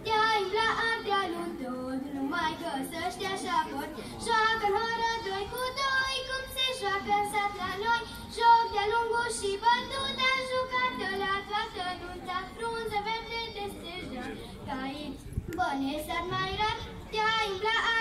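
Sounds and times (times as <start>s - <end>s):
women singing folk song: 0.0s - 18.0s.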